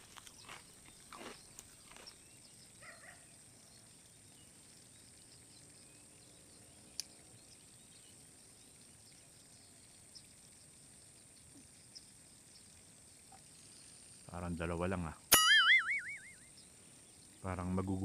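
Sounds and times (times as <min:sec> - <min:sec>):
faint outdoor hiss: 0:00.0 - 0:18.0
faint chirps: 0:00.3 - 0:18.0.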